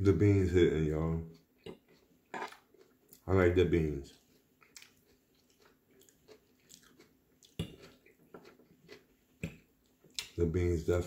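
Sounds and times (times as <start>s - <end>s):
person chewing salad: 1.2s - 10.4s.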